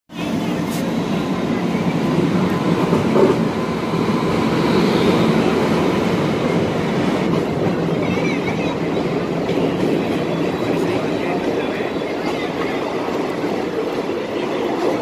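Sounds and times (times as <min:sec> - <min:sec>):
train rumbling over rails: 0:00.1 - 0:15.0.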